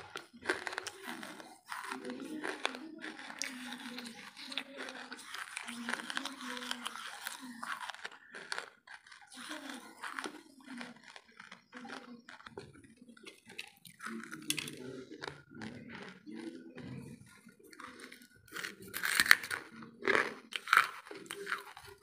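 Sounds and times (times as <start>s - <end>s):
charcoal being chewed crunching: 0.0s - 22.0s.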